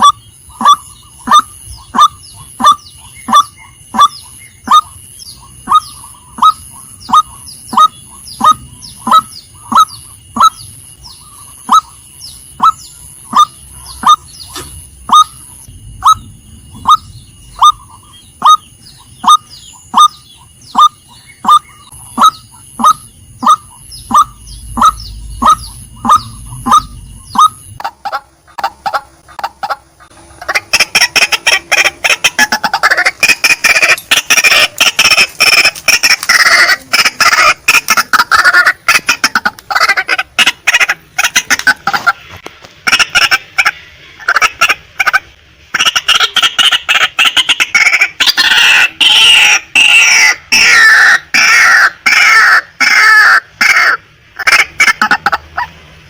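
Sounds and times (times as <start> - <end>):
waterhen calling: 0.0 - 55.8.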